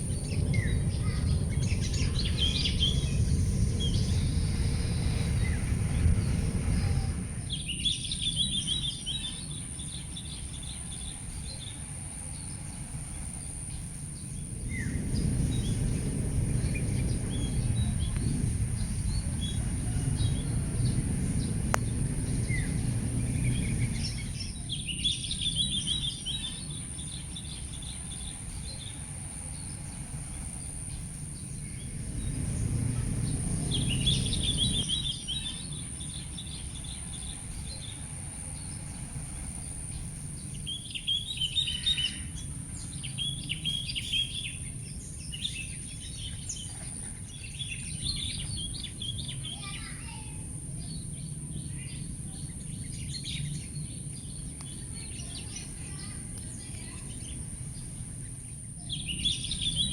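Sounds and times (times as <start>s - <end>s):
low background rumble: 0.0s - 59.9s
small birds chirping: 0.0s - 59.9s.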